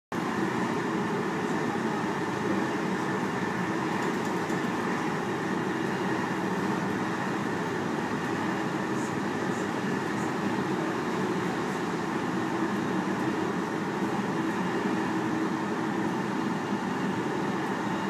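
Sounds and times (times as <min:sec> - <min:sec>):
train rumbling on rails: 0:00.2 - 0:18.0.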